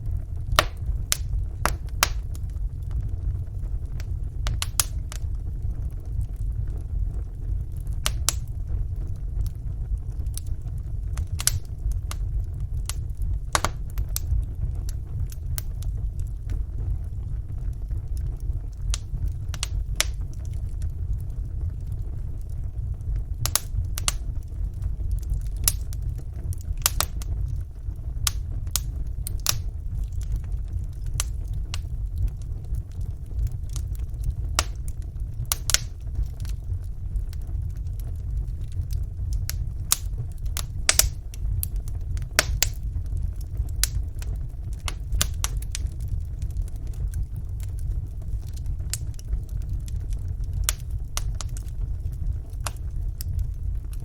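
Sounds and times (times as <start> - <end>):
fire burning with crackles: 0.0 - 54.0
fire popping: 0.0 - 54.0.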